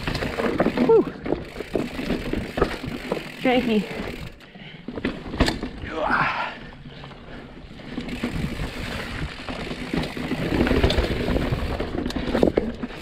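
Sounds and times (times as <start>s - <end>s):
bike rattling: 0.0s - 13.0s
bike tyres rumbling on rock: 0.0s - 13.0s.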